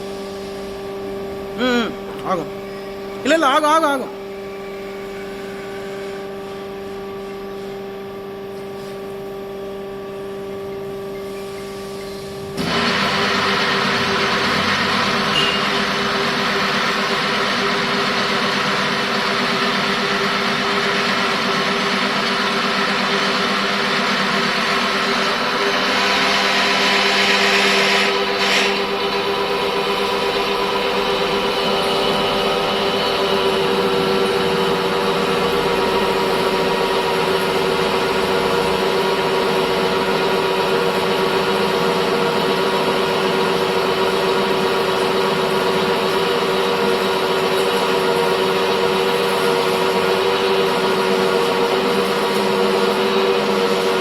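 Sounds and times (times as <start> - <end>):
hydraulic drilling machine hum: 0.0 - 8.6, 9.2 - 54.0.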